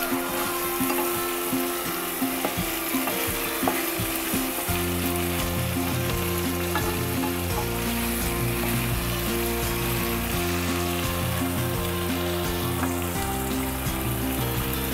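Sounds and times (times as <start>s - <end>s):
wooden spatula scraping a pan: 0.0s - 13.7s
chicken sizzling in a frying pan: 0.0s - 14.9s.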